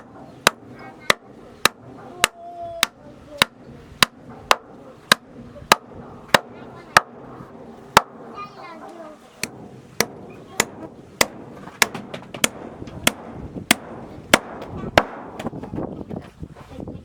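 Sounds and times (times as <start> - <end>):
hammer nailing wood: 0.0 - 8.6, 9.4 - 15.9.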